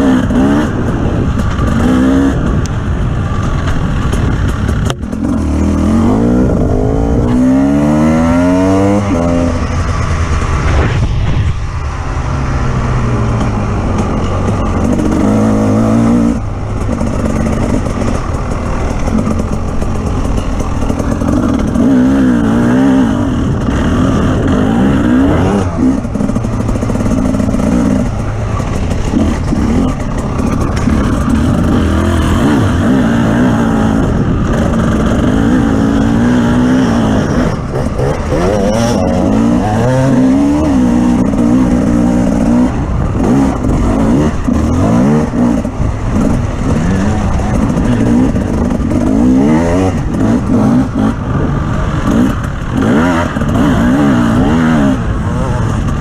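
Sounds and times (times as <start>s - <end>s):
off-road vehicle engine revving: 0.0s - 11.6s, 12.5s - 56.0s.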